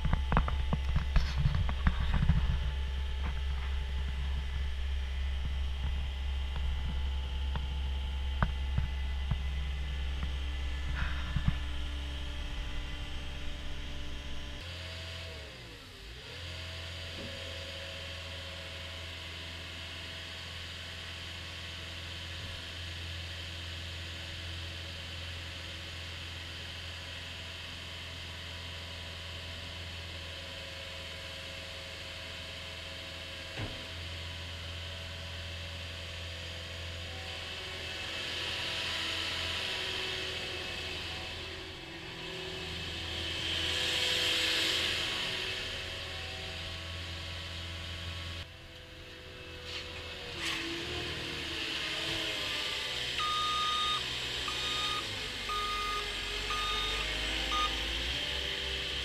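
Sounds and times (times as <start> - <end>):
skid steer loader diesel engine: 0.0 - 59.0.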